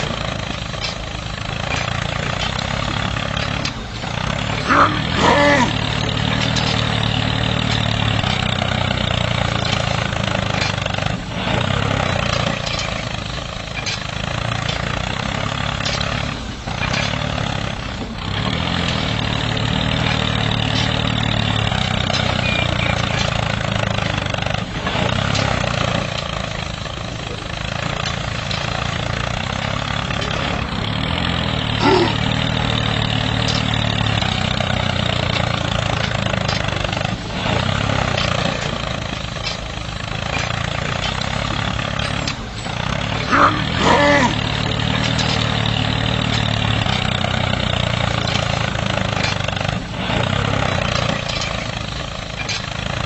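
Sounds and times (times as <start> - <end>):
model tractor engine drone: 0.0 - 53.0.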